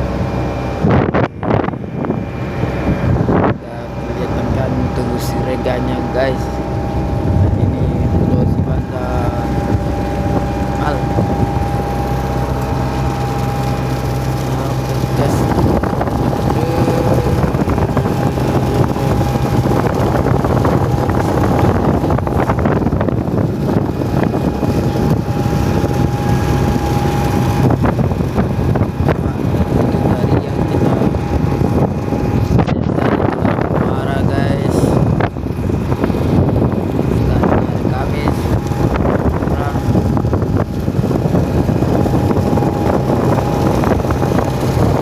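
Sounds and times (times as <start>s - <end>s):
boat engine humming: 0.0s - 45.0s
water rushing: 0.0s - 45.0s
wind buffeting microphone: 0.0s - 45.0s.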